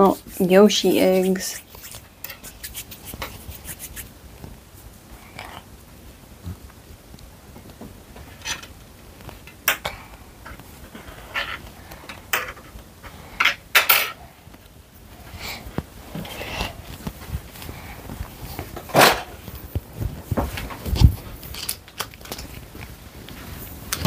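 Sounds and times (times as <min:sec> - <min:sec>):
low room noise: 0:00.0 - 0:24.0.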